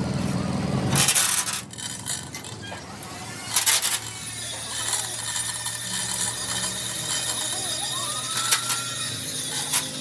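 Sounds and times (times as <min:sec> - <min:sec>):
low engine-like hum: 0:00.0 - 0:10.0
metal scraping and clinking: 0:00.8 - 0:10.0.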